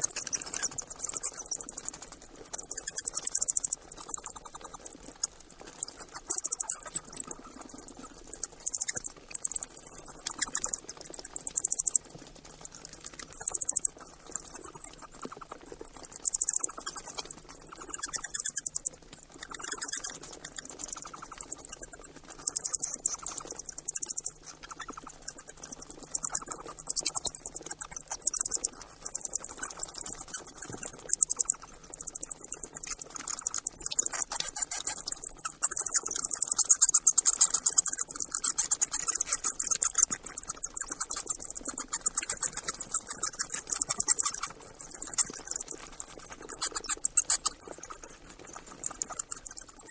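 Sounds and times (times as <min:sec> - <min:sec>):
mice squeaking: 0:00.0 - 0:49.9.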